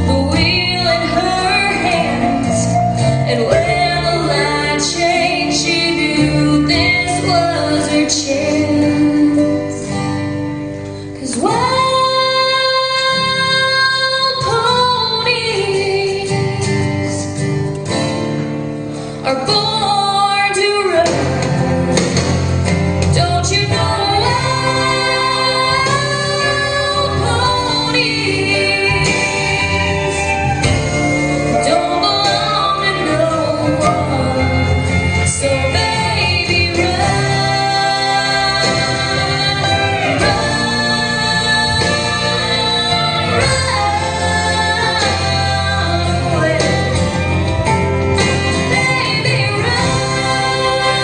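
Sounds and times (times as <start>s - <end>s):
woman singing: 0.0s - 10.4s, 11.1s - 17.6s, 19.2s - 22.4s, 23.0s - 30.7s, 31.4s - 51.0s
band accompaniment: 0.0s - 51.0s.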